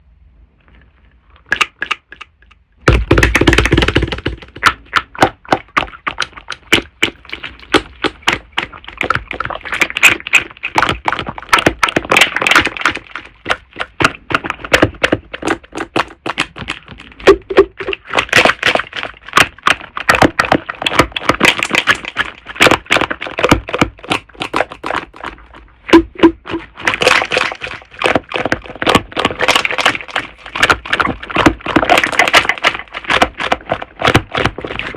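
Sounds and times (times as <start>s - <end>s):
slime squishing and popping: 1.4s - 34.9s.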